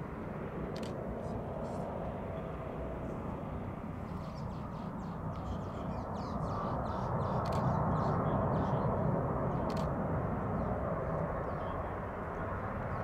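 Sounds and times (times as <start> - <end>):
jet airliner rumble: 0.0 - 13.0.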